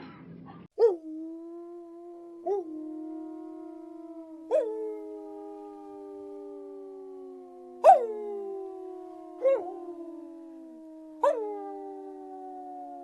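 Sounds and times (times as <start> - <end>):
canines howling together: 0.8 - 13.0.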